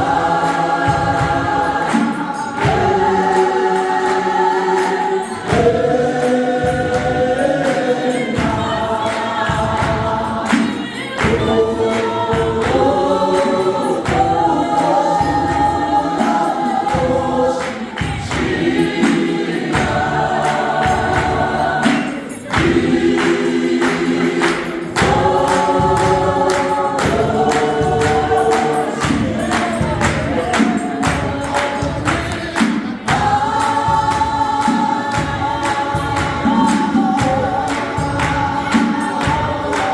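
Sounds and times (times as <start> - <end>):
gospel choir singing: 0.0 - 39.9
steady percussive beat: 0.0 - 39.9.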